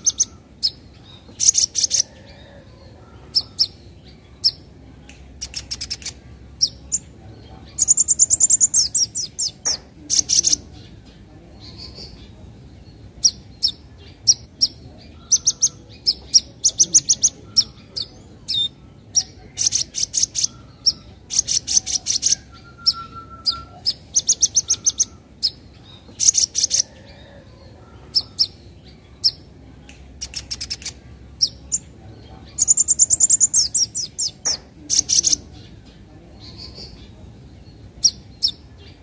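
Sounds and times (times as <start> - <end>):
bird chattering song: 0.0 - 39.0.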